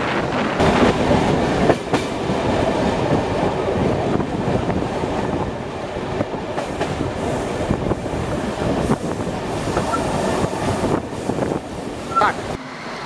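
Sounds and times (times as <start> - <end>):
train wheel and rail noise: 0.0 - 13.0.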